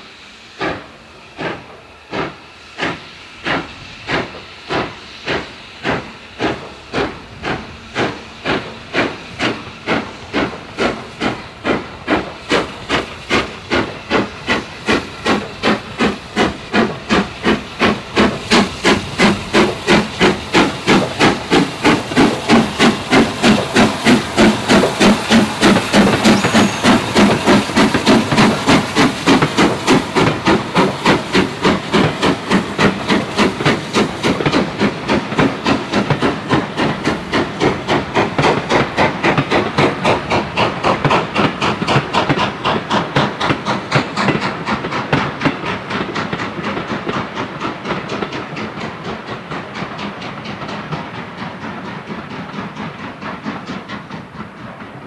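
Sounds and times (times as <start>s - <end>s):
steady hiss of steam: 0.0s - 55.0s
steam locomotive chuffing: 0.0s - 55.0s.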